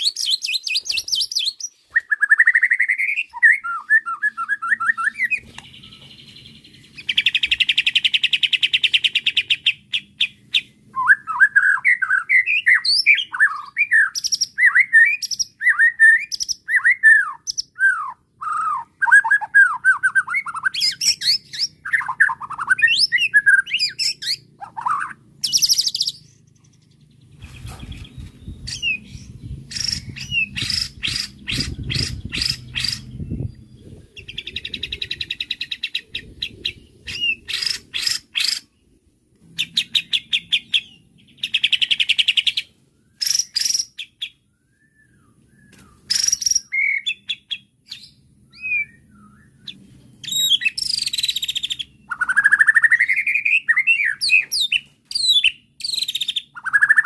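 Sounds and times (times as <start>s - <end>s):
songbird singing varied song: 0.0s - 57.0s.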